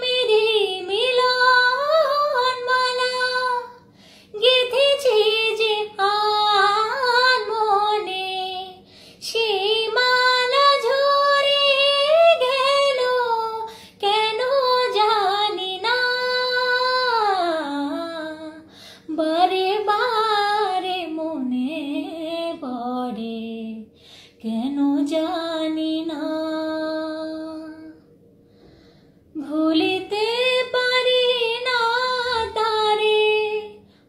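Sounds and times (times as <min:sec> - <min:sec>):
woman singing unaccompanied: 0:00.0 - 0:28.0, 0:29.4 - 0:33.8.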